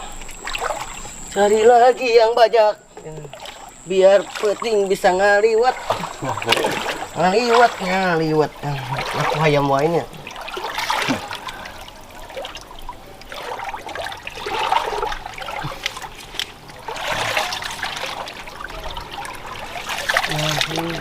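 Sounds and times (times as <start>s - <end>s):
water sloshing as people wade: 0.0s - 21.0s.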